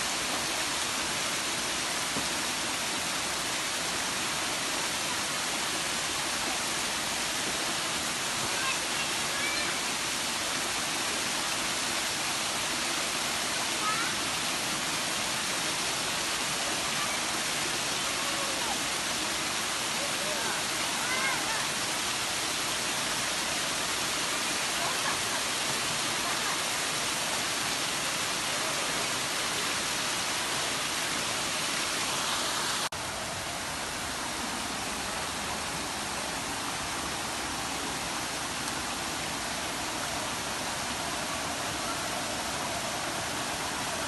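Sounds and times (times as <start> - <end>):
stream water cascading: 0.0 - 44.0.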